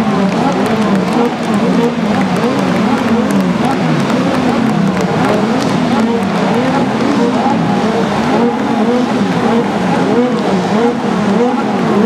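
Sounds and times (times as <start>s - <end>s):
supercar engines revving: 0.0s - 12.0s.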